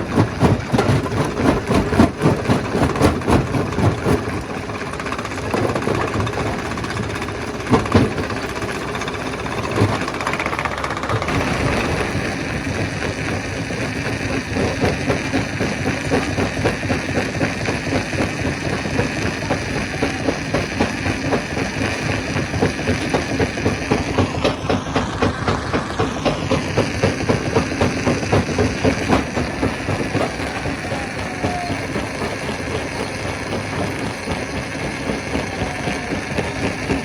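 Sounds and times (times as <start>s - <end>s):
stone crusher machine rumbling: 0.0s - 37.0s.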